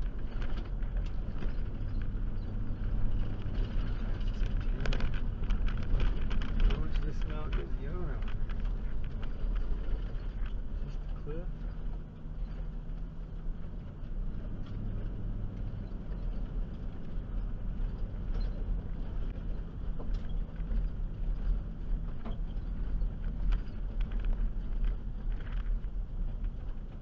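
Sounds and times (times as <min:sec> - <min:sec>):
clicks and rattles: 0:00.0 - 0:27.0
van engine and road rumble: 0:00.0 - 0:27.0.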